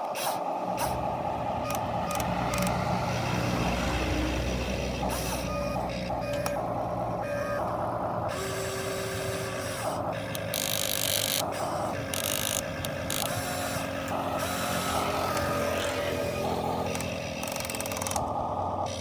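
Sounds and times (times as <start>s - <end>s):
electric motors and gears whirring: 0.0s - 19.0s.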